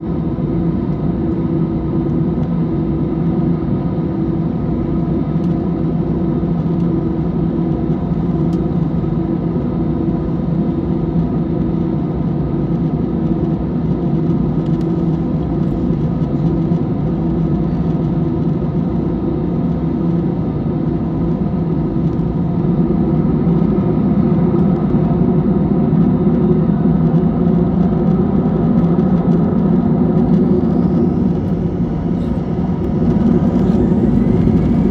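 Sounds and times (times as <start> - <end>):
airliner engines droning: 0.0 - 34.9.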